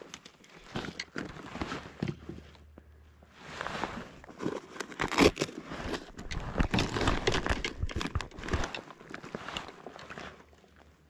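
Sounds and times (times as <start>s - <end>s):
rustling and crinkling handling: 0.0s - 11.0s.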